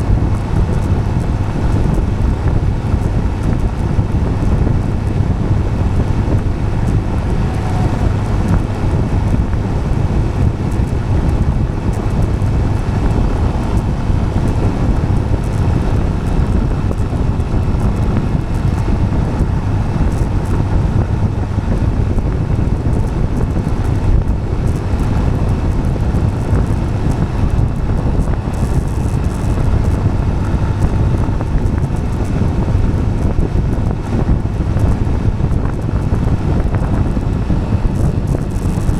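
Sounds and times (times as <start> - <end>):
tyres rolling on asphalt: 0.0 - 38.9
wind buffeting microphone: 0.0 - 38.9.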